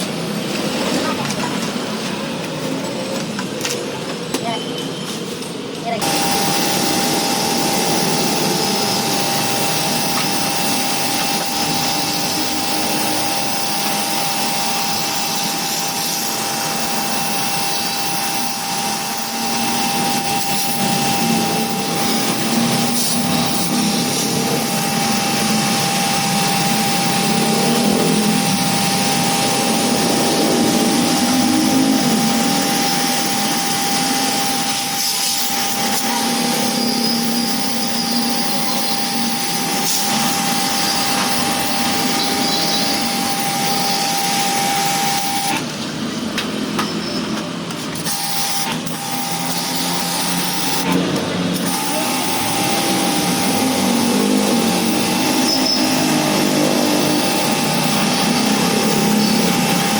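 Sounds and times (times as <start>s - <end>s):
pressure washer motor whine: 0.0s - 59.9s
water jet hissing: 6.0s - 59.9s.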